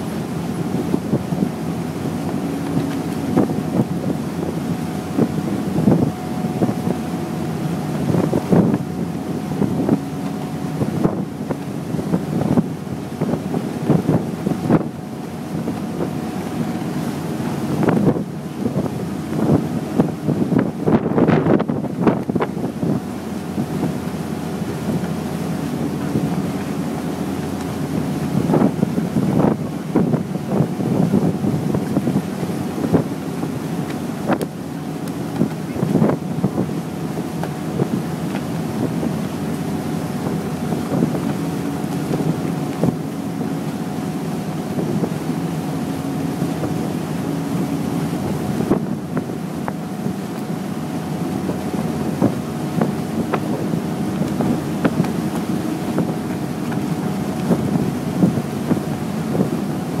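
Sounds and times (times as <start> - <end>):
ferry engine drone: 0.0 - 60.0
wind noise on microphone: 0.0 - 60.0.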